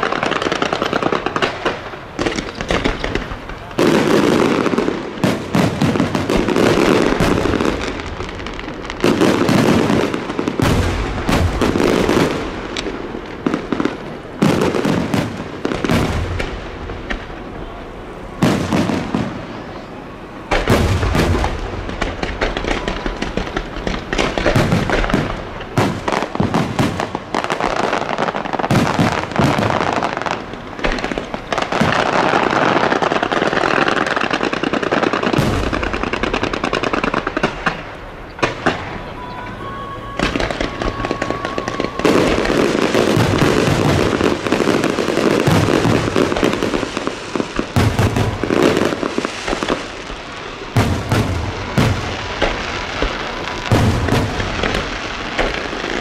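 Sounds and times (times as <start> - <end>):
firework shells bursting with bangs: 0.0 - 17.4, 20.5 - 56.0
fireworks crackling: 0.0 - 56.0.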